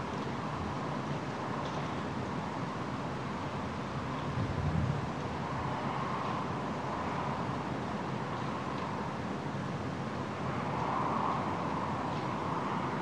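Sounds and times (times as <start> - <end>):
vehicle-like drone with hiss: 0.0 - 13.0.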